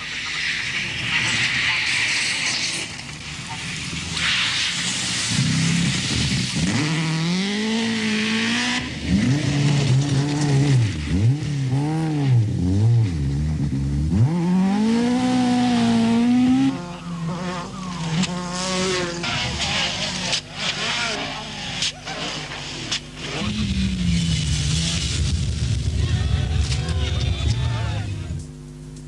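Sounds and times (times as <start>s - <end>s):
gravel and tyres hissing: 0.0s - 14.0s, 14.7s - 28.4s
rally car engines revving: 0.0s - 28.8s.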